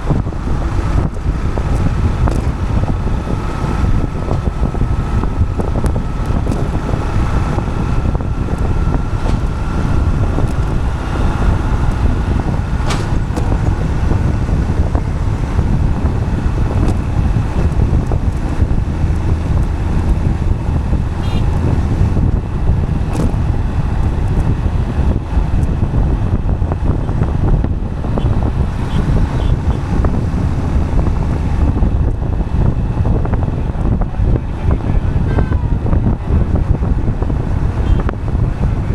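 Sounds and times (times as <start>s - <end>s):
low road rumble of vehicle: 0.0s - 38.9s
wind buffeting microphone: 0.0s - 38.9s.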